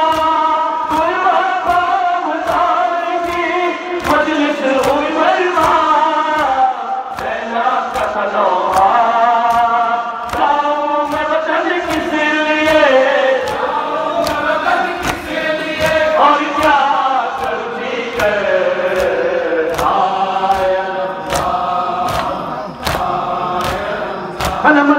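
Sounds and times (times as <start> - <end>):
crowd chanting in unison: 0.0 - 24.9
men singing a lament: 0.0 - 24.9
hands beating on chests: 0.9 - 24.8.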